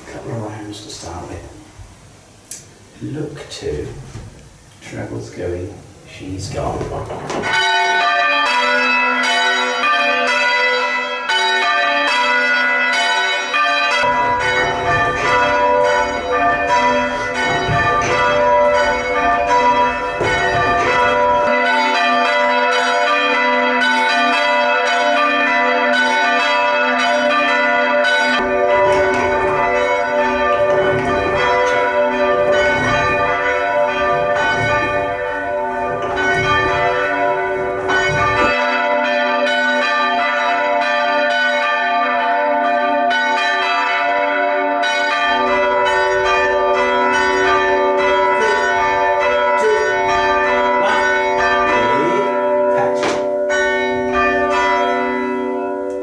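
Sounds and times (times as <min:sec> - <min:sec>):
church bells ringing: 0:06.3 - 0:56.0.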